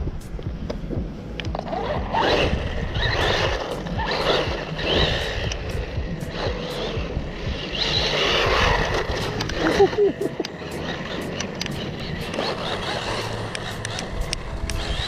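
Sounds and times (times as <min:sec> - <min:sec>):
toy truck motor whirring: 0:01.5 - 0:15.0.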